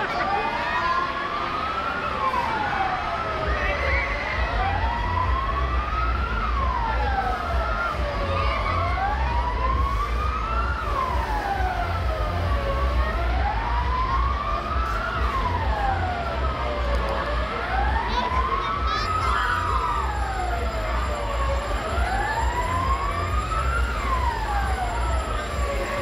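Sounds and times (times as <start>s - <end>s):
siren-like wail: 0.0s - 26.0s.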